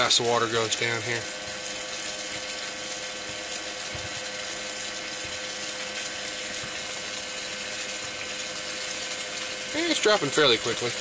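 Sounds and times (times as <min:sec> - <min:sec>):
electric bilge pump humming: 0:00.0 - 0:11.0.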